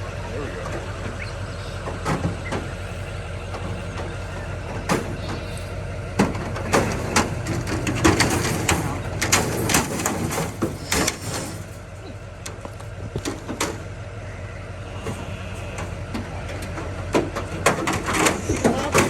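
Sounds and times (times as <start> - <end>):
low engine hum: 0.0 - 19.0
sheep hooves knocking and clattering: 0.6 - 14.0, 14.9 - 19.0.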